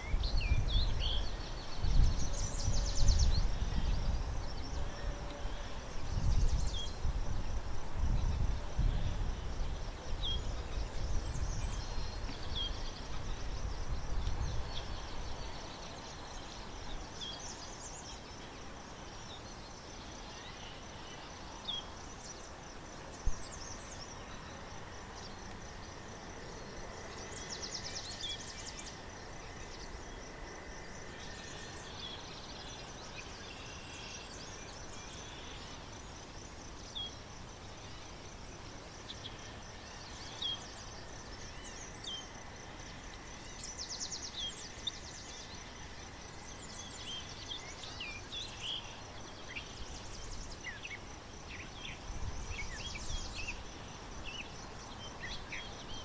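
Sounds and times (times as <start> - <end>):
high insect trill: 0.0 - 56.0.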